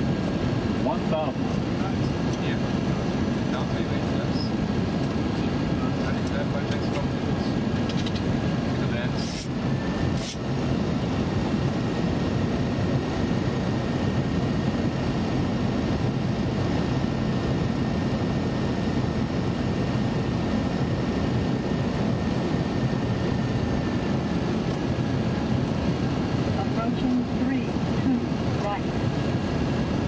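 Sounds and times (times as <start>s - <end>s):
aircraft cockpit air and engine rush: 0.0s - 30.0s.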